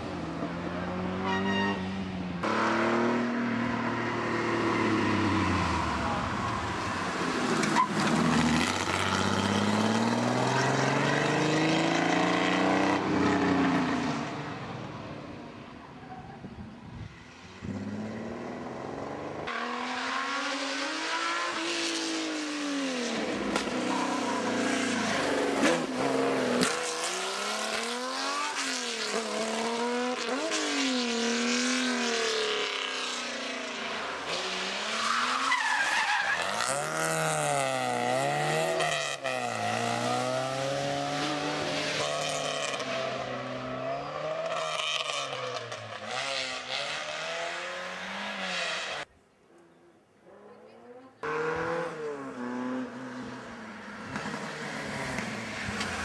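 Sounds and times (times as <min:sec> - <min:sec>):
rally car engines revving: 0:00.0 - 0:14.7, 0:17.4 - 0:49.1, 0:50.3 - 0:56.0.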